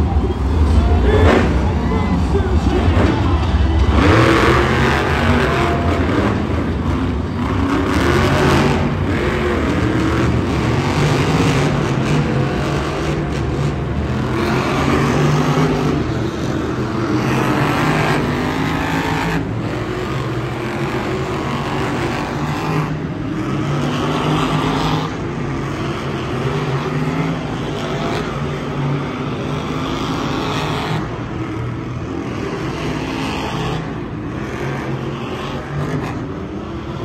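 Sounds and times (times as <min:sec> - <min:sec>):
monster truck engines revving: 0:00.0 - 0:37.0.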